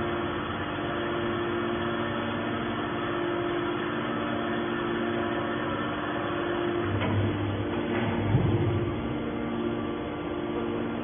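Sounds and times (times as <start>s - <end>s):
electric motor and pump hum: 0.0s - 11.0s.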